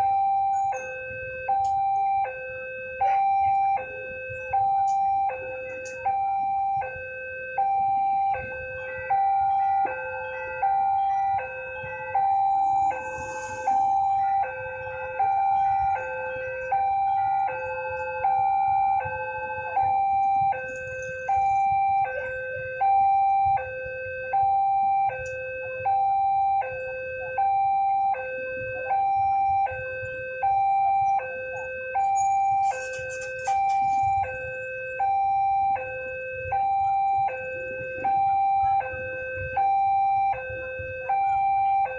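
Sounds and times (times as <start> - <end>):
level crossing two-tone alarm: 0.0 - 41.9.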